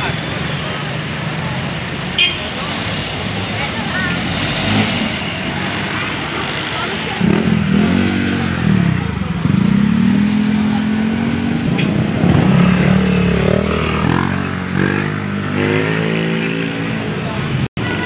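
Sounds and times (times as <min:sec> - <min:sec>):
motorcycle engines revving: 0:00.0 - 0:18.0
rumble of cars: 0:00.0 - 0:18.0.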